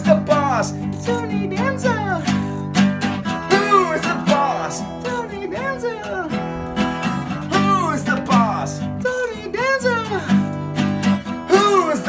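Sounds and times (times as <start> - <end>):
man singing: 0.0 - 2.4, 3.2 - 10.7, 11.3 - 12.0
acoustic guitar strumming: 0.0 - 12.0.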